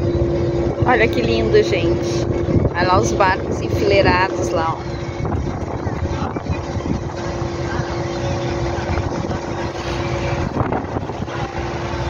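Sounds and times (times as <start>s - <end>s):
boat engine rumbling: 0.0s - 12.0s
wind on microphone: 0.0s - 12.0s.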